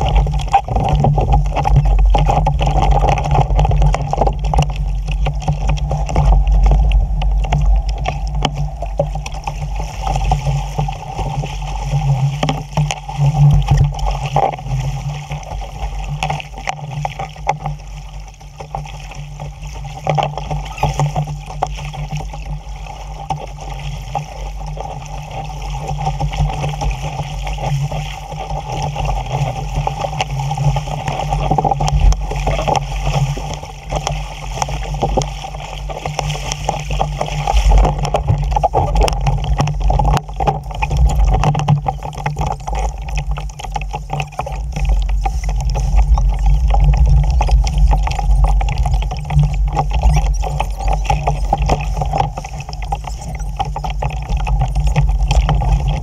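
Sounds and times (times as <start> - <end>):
water rushing along hull: 0.0 - 56.0.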